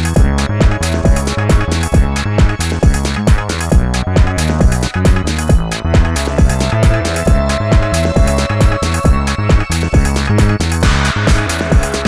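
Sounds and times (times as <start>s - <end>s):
electronic dance music: 0.0s - 12.0s
kick-drum beat: 0.0s - 12.0s
sustained synth chords: 0.0s - 12.0s.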